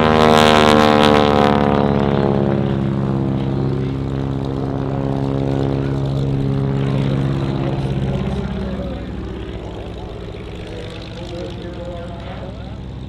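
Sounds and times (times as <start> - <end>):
biplane engine passing: 0.0 - 13.0.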